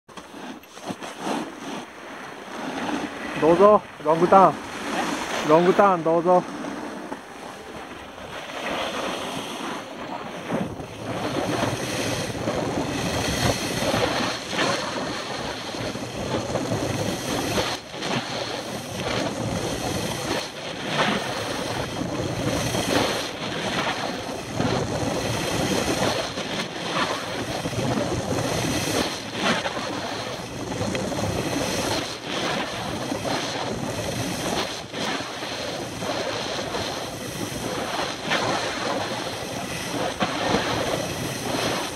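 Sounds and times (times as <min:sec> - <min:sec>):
skis scraping on snow: 0:00.1 - 0:41.9
wind buffeting microphone: 0:00.3 - 0:41.9.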